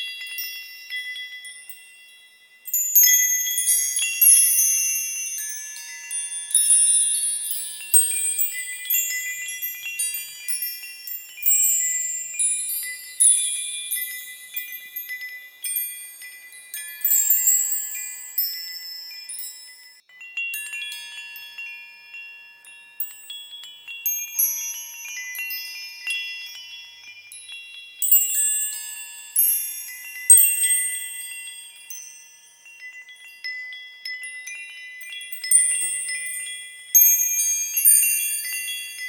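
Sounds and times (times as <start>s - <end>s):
small high-pitched bells chiming: 0.0s - 39.0s.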